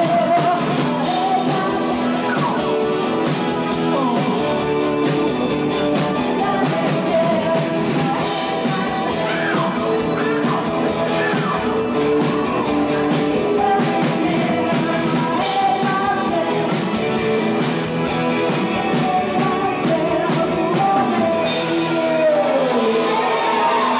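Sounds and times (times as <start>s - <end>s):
woman singing: 0.0s - 2.9s, 3.8s - 5.0s, 6.0s - 17.4s, 18.6s - 23.9s
electric guitar: 0.0s - 23.9s
steady drum beat: 0.0s - 23.9s.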